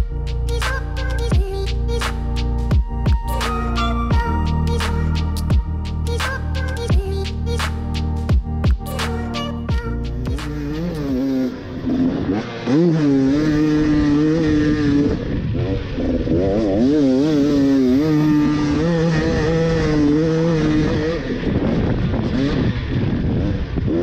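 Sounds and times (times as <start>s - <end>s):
two-stroke motorbike engine revving: 0.0s - 24.0s.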